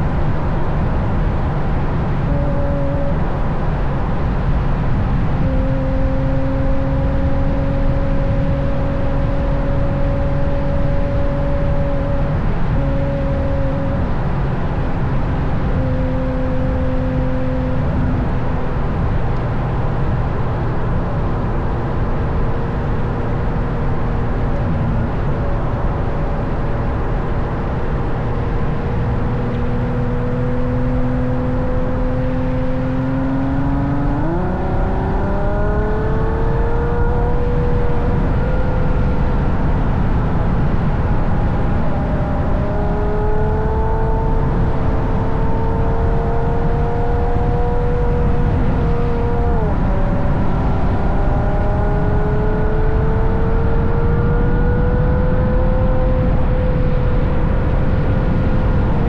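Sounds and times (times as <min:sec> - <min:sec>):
car exhaust at speed: 0:00.0 - 0:59.0.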